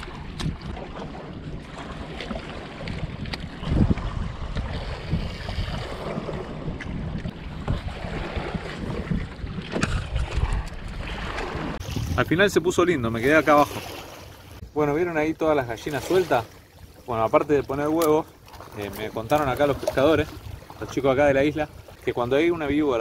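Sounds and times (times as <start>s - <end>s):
wind rumbling on microphone: 0.0s - 14.8s, 18.5s - 23.0s
river water lapping: 0.0s - 23.0s.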